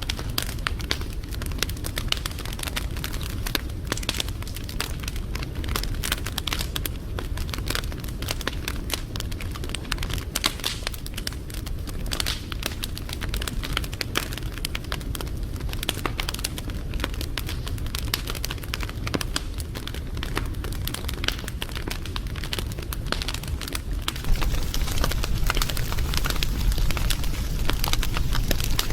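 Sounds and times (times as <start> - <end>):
low rumble of burning: 0.0 - 28.9
wood fire crackling and popping: 0.0 - 28.9.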